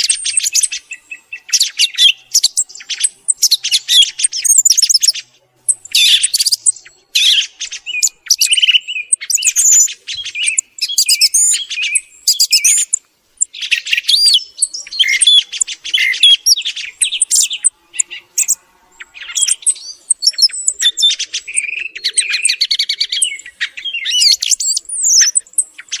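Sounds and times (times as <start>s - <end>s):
thrush singing: 0.0s - 26.0s.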